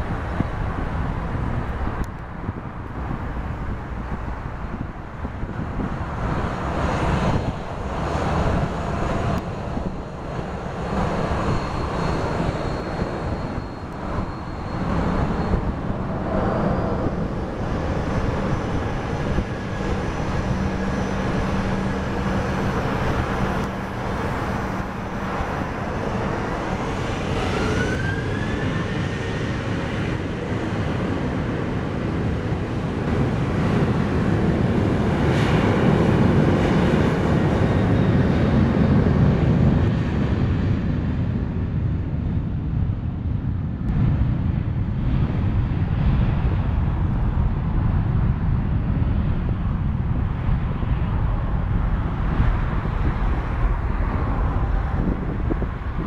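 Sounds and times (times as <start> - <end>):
jet engine whine rising: 0.0 - 56.0
jet engines running: 0.0 - 56.0.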